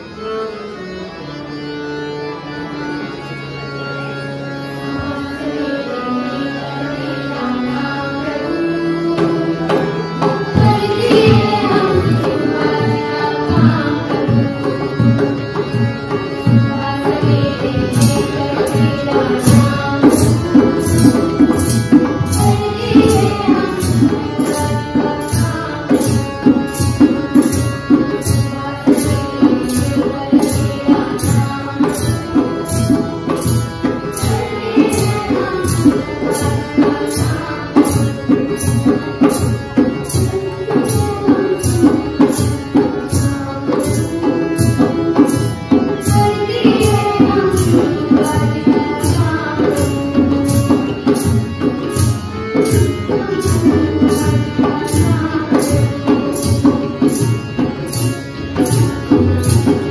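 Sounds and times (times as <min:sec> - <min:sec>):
tabla beat: 0:07.8 - 0:59.9.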